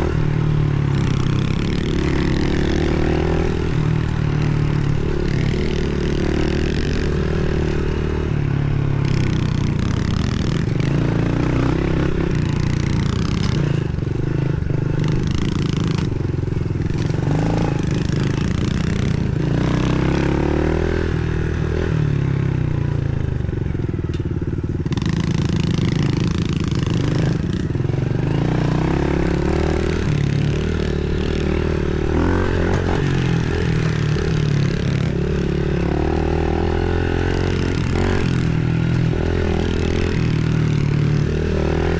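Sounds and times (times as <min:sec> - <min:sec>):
pit bike engines revving: 0:00.0 - 0:22.7, 0:24.9 - 0:41.9.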